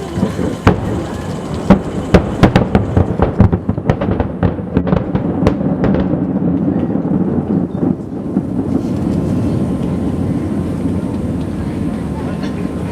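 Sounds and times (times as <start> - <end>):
firework shell bursts: 0.0 - 11.6
low rumble of reports: 0.0 - 12.9.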